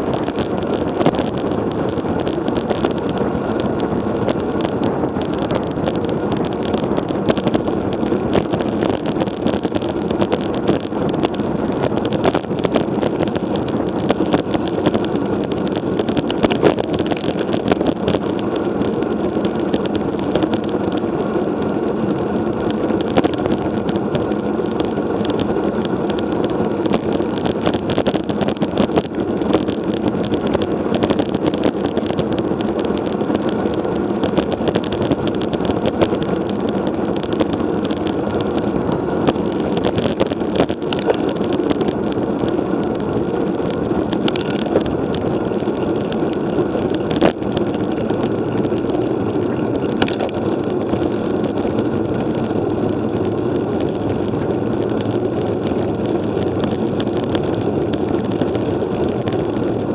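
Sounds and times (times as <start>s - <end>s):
bicycle rattles and knocks: 0.0s - 59.9s
bicycle road rumble: 0.0s - 59.9s
wind on microphone: 0.0s - 59.9s.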